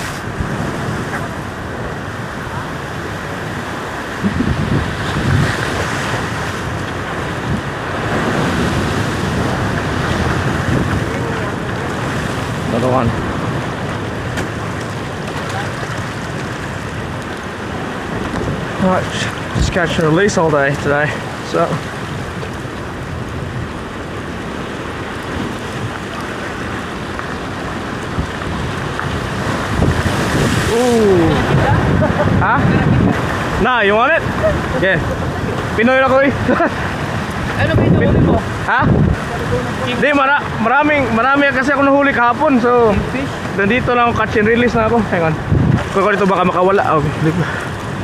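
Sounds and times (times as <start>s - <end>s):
ocean surf breaking on rocks: 0.0s - 48.0s
wind buffeting microphone: 0.0s - 48.0s.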